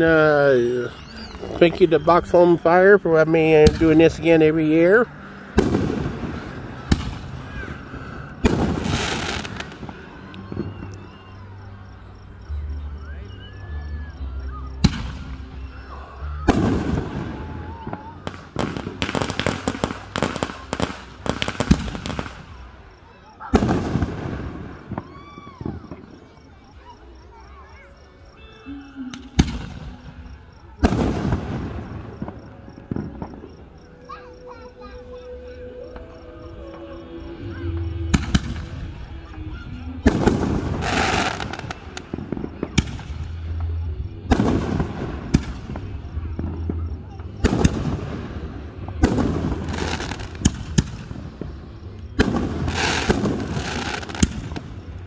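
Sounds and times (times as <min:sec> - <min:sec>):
fireworks banging: 0:00.0 - 0:11.0, 0:16.4 - 0:26.9, 0:29.0 - 0:36.9, 0:37.6 - 0:55.0
fireworks crackling: 0:00.0 - 0:12.1, 0:14.2 - 0:55.0.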